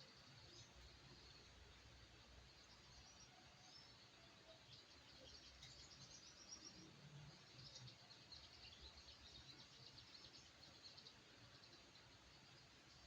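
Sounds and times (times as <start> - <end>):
small songbird chirping: 0.0 - 13.0.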